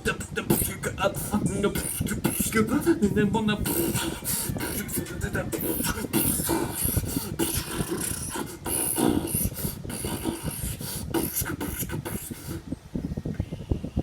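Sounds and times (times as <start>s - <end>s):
person beatboxing: 0.0s - 12.8s.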